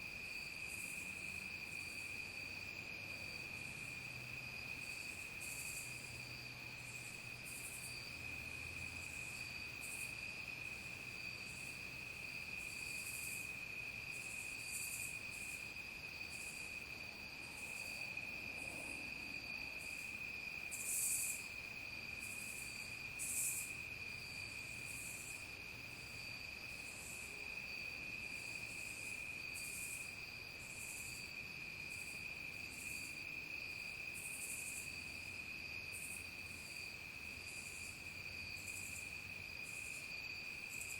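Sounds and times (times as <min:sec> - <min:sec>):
cricket chirps: 0:00.0 - 0:40.9
cricket continuous trill: 0:00.0 - 0:40.9.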